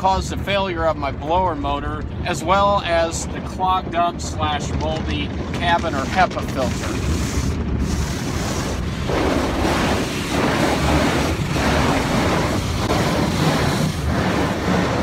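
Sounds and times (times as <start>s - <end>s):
car wash spraying water: 0.0s - 15.0s.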